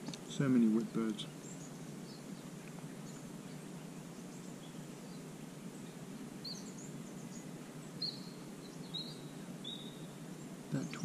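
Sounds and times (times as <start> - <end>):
low background hum: 0.0 - 11.0
small birds twittering: 0.0 - 11.0.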